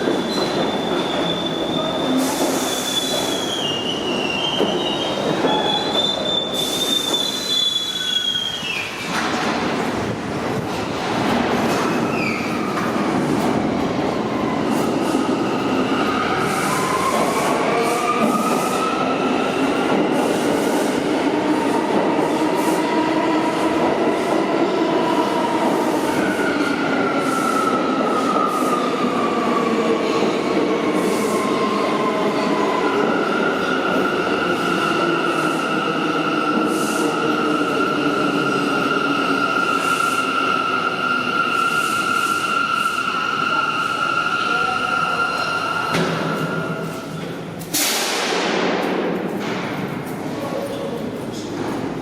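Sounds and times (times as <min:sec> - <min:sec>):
subway train wheels squealing: 0:00.0 - 0:48.0.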